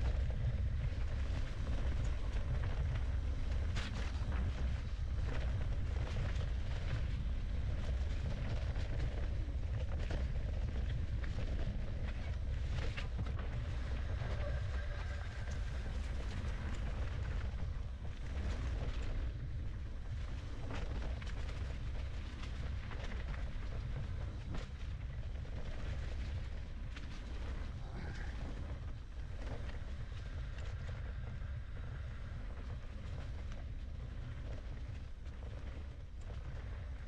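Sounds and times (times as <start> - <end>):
bike tyres rumbling on dirt: 0.0 - 37.0
wind on microphone: 0.0 - 37.0.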